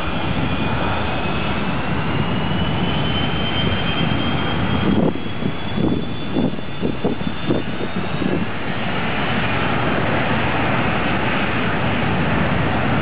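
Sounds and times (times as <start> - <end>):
jet engines roaring: 0.0 - 13.0
low buffeting pulses: 0.0 - 13.0.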